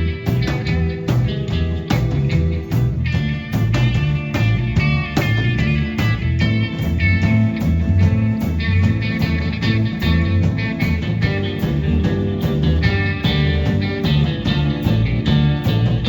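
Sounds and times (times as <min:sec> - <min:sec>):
rock and roll band playing: 0:00.0 - 0:16.0.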